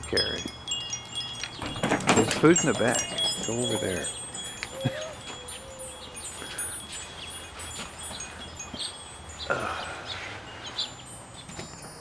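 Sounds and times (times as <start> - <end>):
wind chimes tinkling: 0.0 - 12.0.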